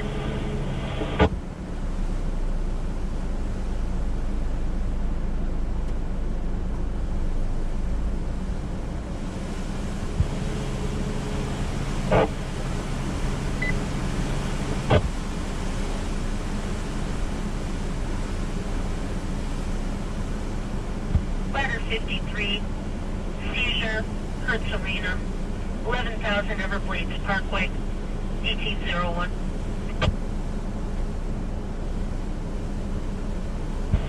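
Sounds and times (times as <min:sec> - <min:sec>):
hurricane wind and rain: 0:00.0 - 0:34.0
low hum: 0:00.0 - 0:34.0.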